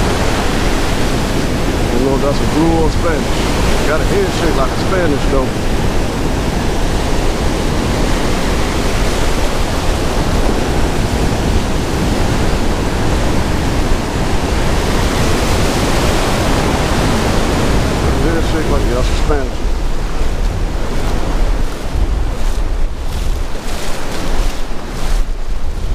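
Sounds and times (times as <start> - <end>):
ocean surf breaking: 0.0 - 25.9.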